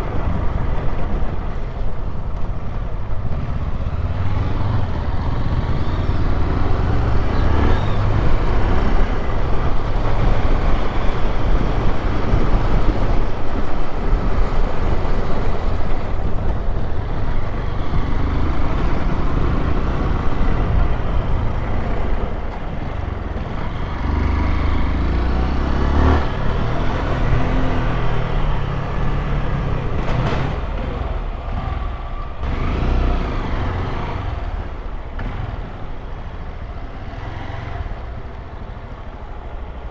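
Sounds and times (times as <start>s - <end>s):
wind and road noise: 0.0s - 39.9s
motorcycle engine running: 2.8s - 39.9s.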